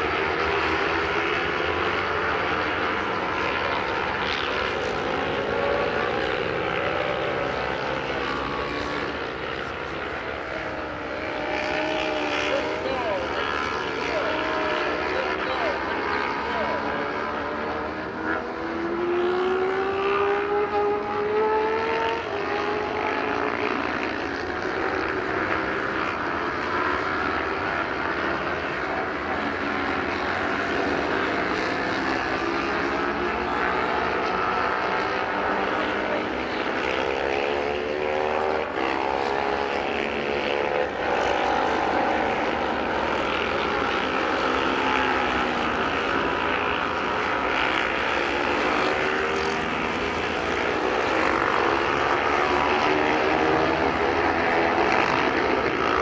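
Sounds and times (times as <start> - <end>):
racing motorcycle engines revving: 0.0 - 56.0.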